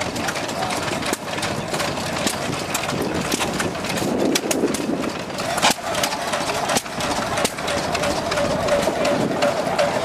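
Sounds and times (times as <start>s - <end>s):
sharp engine knocks and pops: 0.0s - 10.0s
stationary engines running: 0.0s - 10.0s.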